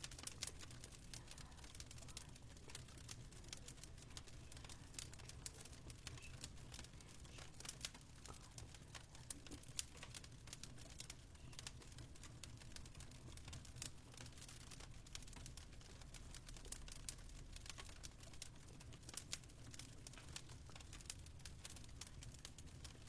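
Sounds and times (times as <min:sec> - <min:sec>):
fireplace crackle: 0:00.0 - 0:23.0.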